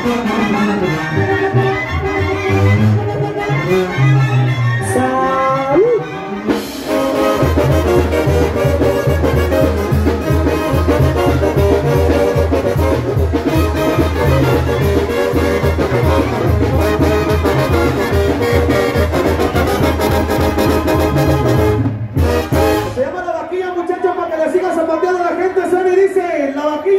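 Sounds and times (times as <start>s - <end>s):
trombones and trumpets: 0.0s - 23.3s.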